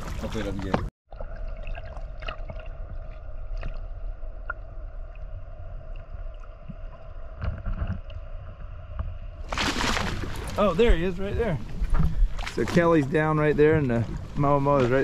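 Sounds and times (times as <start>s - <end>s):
underwater low rumble and hum: 1.1s - 14.9s.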